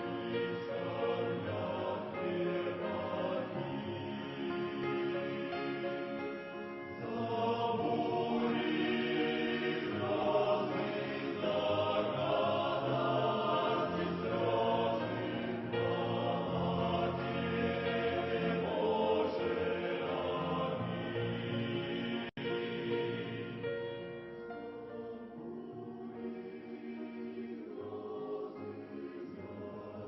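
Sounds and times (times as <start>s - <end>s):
choir singing a hymn: 0.0s - 30.0s.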